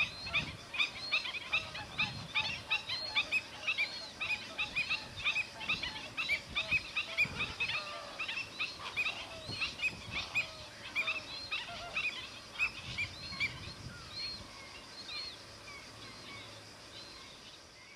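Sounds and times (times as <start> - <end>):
waterbirds calling: 0.0 - 17.8.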